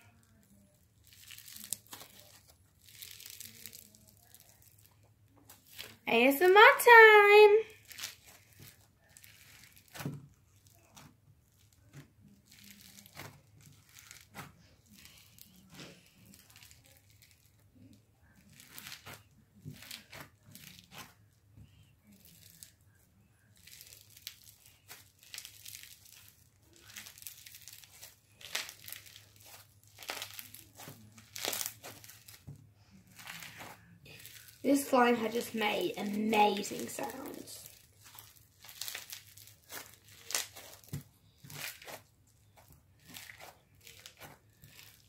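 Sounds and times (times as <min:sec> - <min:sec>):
slime squelching and popping: 0:00.0 - 0:06.0, 0:07.7 - 0:45.0.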